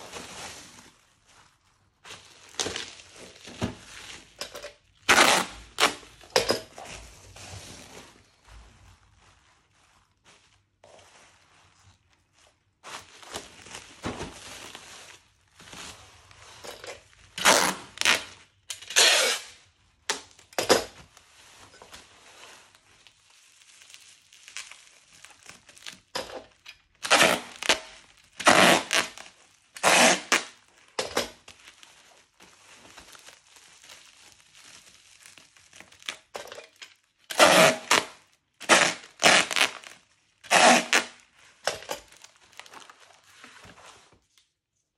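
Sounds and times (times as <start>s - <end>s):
plastic packaging crinkling: 0.0s - 18.7s, 19.5s - 44.9s
plastic rustling: 0.0s - 44.9s.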